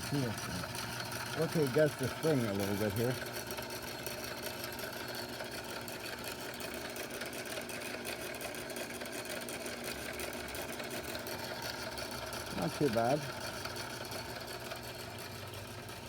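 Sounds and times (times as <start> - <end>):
belt-driven lathe humming: 0.0 - 16.0.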